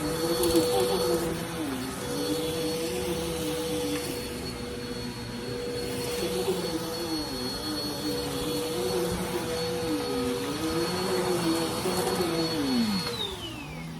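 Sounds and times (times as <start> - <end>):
vacuum cleaner whining: 0.0 - 13.9.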